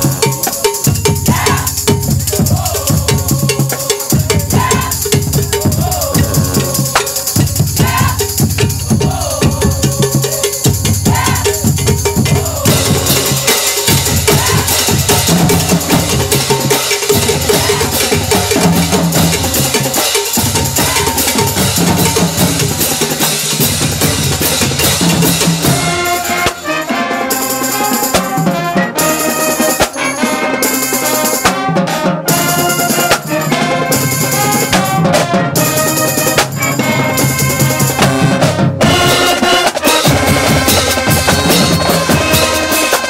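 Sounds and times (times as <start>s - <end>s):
drumline: 0.0s - 43.0s
horns and flutes melody: 0.0s - 43.0s
marching band playing: 0.0s - 43.0s.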